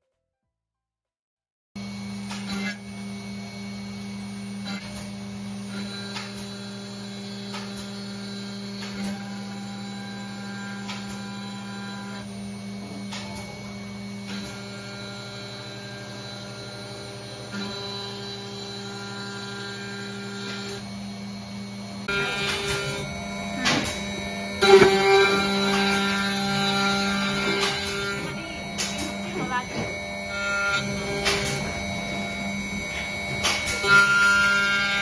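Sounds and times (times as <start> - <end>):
router spindle whining: 1.8 - 35.0.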